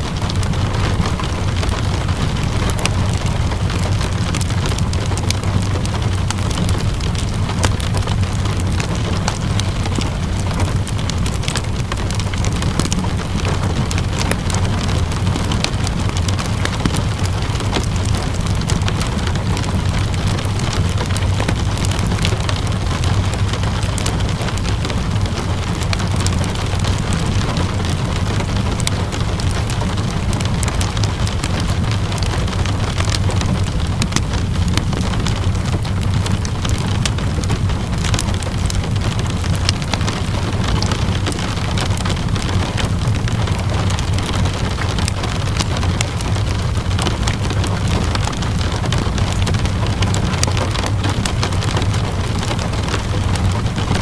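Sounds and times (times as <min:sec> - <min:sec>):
steady rainfall: 0:00.0 - 0:54.0
wood fire crackling: 0:00.0 - 0:54.0.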